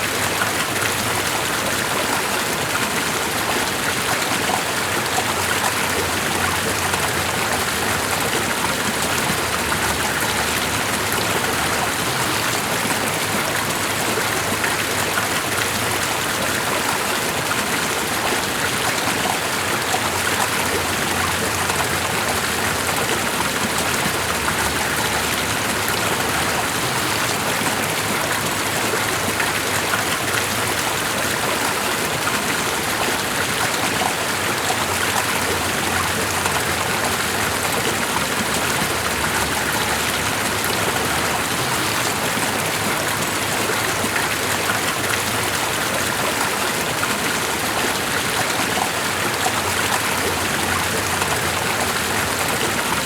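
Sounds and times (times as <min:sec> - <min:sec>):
stream of running water: 0:00.0 - 0:53.0.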